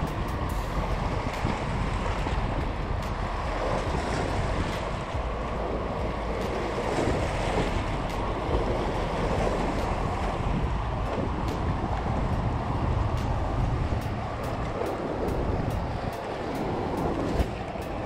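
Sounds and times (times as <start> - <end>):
waves lapping against rocks: 0.0 - 18.0
wind buffeting microphone: 0.0 - 18.0.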